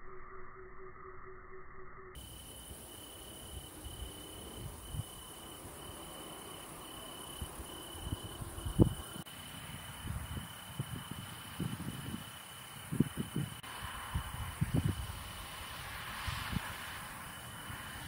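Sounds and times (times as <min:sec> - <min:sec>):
crickets trilling: 0:02.2 - 0:18.0
faint high insect hiss: 0:02.2 - 0:18.0.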